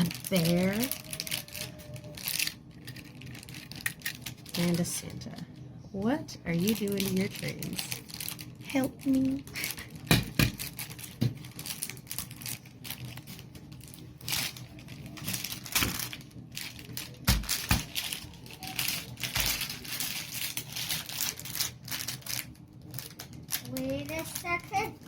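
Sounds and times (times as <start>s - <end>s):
plastic packaging rustling: 0.0s - 5.6s, 6.5s - 25.0s.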